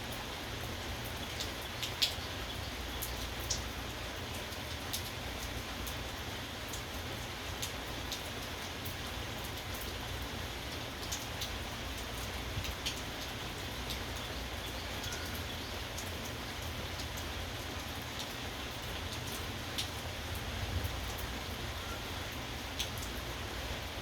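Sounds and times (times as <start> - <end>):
raindrops ticking on a surface: 0.0 - 24.0
steady rain falling: 0.0 - 24.0.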